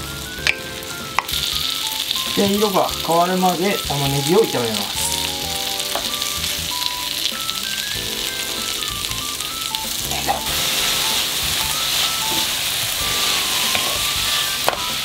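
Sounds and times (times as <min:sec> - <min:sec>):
onions sizzling in a frying pan: 0:00.0 - 0:15.0
wooden spatula stirring in pan: 0:00.8 - 0:15.0.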